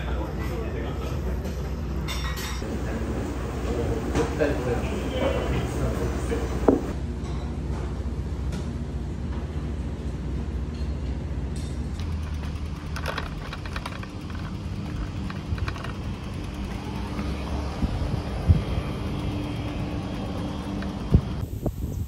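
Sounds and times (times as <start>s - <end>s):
low mechanical hum and rumble: 0.0s - 22.0s.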